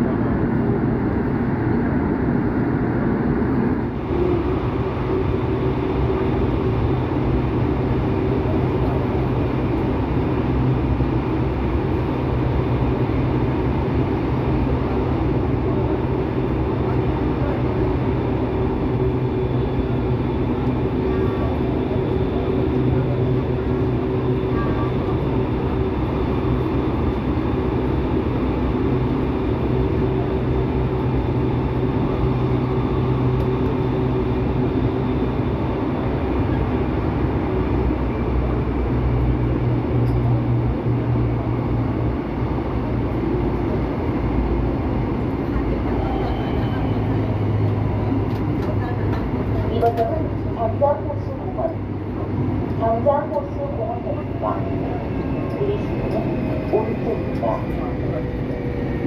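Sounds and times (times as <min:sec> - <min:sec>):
subway train wheels rumbling on rails: 0:00.0 - 0:59.0.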